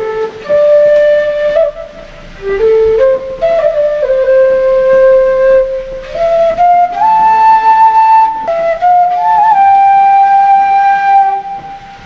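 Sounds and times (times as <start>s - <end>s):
bamboo flute melody: 0.0s - 12.0s.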